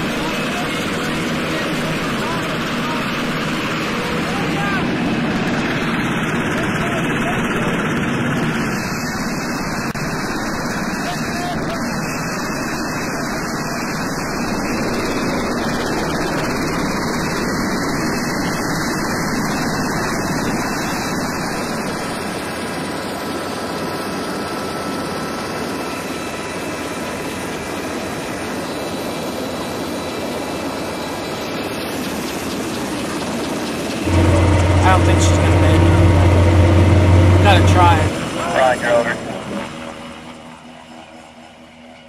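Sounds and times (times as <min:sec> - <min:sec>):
helicopter landing: 0:00.0 - 0:42.0.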